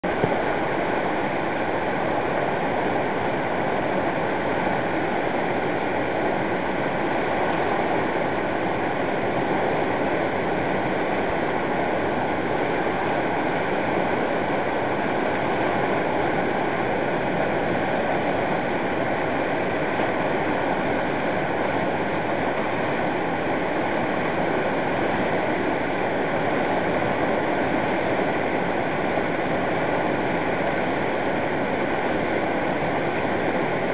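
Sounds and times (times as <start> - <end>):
water rushing over boulders: 0.0 - 33.9.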